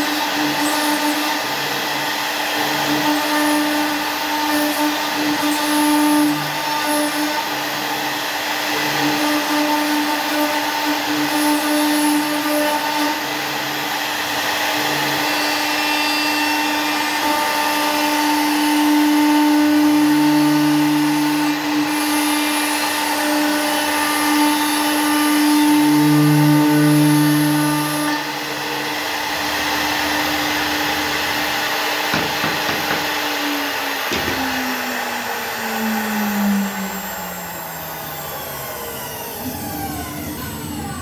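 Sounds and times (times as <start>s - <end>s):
router spindle whine: 0.0s - 41.0s.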